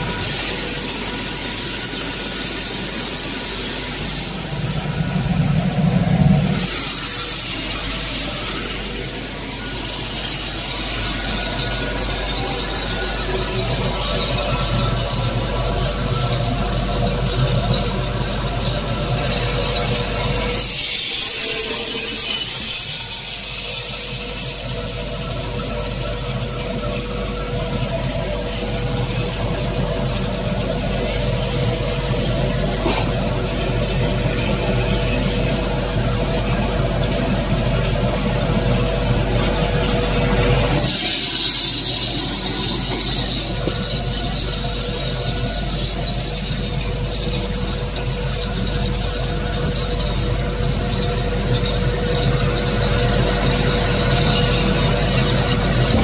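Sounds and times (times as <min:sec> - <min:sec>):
corn peeling machine running: 0:00.0 - 0:56.0.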